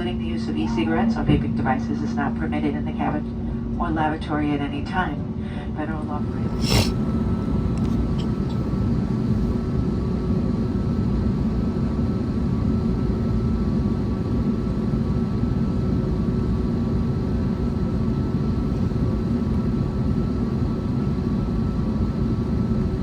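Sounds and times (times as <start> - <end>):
airplane cabin low rumble: 0.0 - 23.0.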